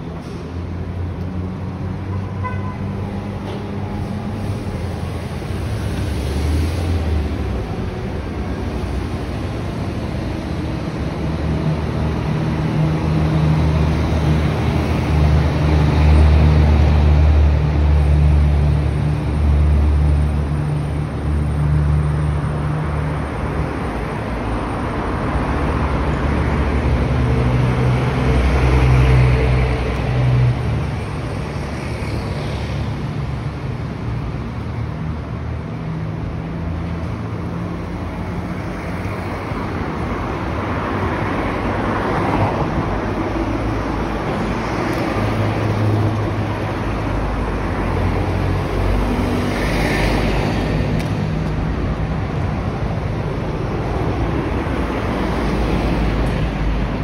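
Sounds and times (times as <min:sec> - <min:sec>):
city traffic rumbling: 0:00.0 - 0:57.0.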